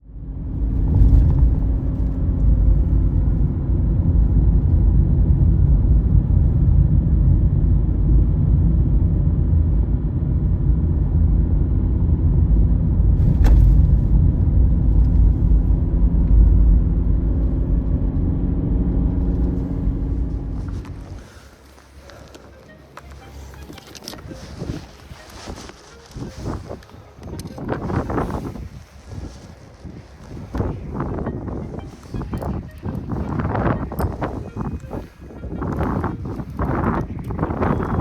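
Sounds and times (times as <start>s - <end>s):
engine running with low rumble: 0.0s - 38.0s.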